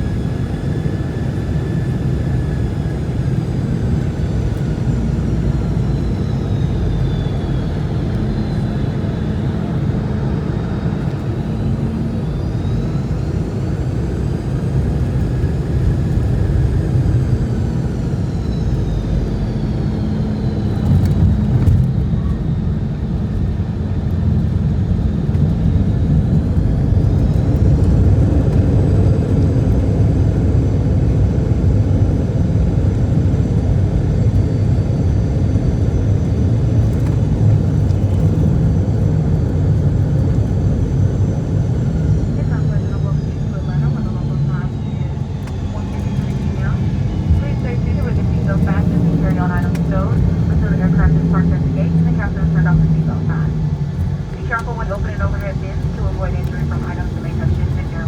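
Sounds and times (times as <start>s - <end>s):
jet engine whine: 0.0s - 58.0s
low cabin rumble: 3.6s - 30.2s, 36.2s - 58.0s.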